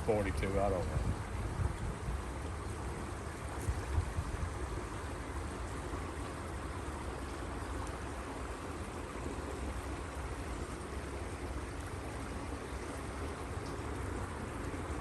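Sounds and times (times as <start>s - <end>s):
water rushing through culvert: 0.0s - 15.0s.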